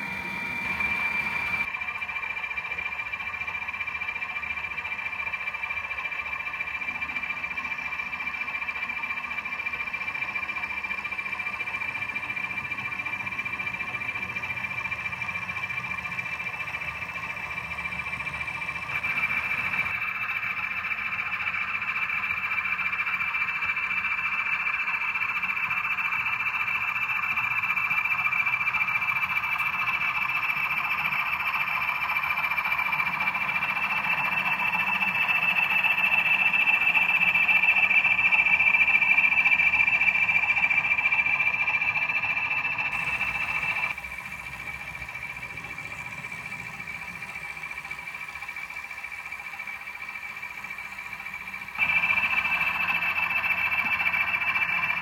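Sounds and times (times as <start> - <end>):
model locomotive droning hum: 0.0 - 55.0.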